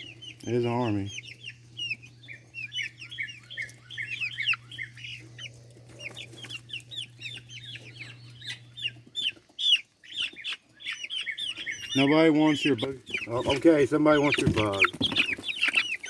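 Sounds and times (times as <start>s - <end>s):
chickens peeping and clucking: 0.0s - 16.0s
steady low hum: 0.0s - 16.0s.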